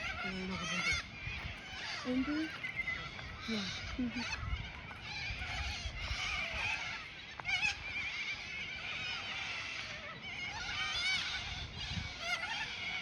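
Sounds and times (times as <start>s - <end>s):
chorus of bird chirps: 0.0s - 13.0s.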